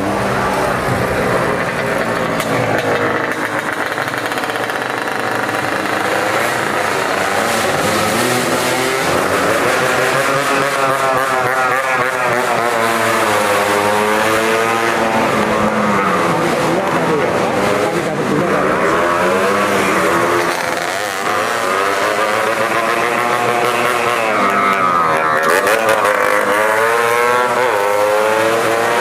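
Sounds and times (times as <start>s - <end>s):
racing scooter engines revving: 0.0s - 29.0s.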